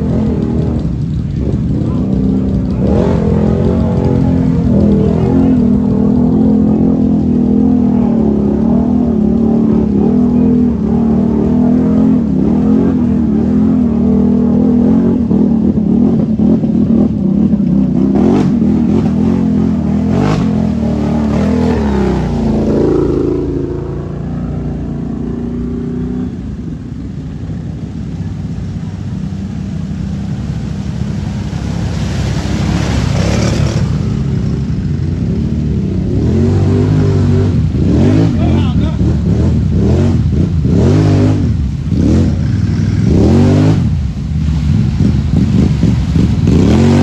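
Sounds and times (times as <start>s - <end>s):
quad engines revving: 0.0s - 26.3s, 28.1s - 47.0s
driving through muddy water: 0.0s - 47.0s.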